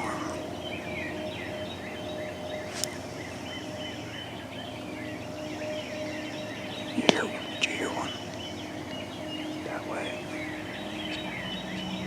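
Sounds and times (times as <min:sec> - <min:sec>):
faint steady hum: 0:00.0 - 0:12.0
songbirds chirping: 0:00.0 - 0:12.0.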